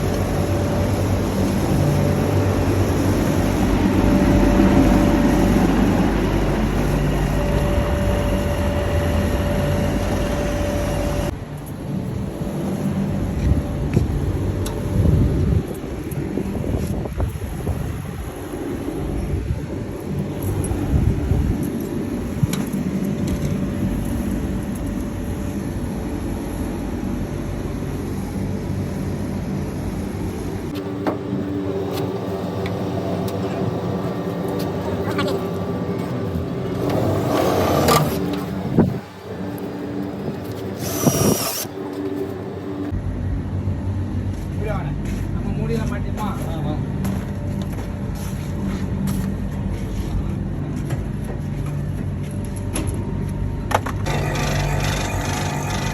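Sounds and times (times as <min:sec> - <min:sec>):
compressor hum: 0:00.0 - 0:55.9
condenser fan rush: 0:00.0 - 0:55.9.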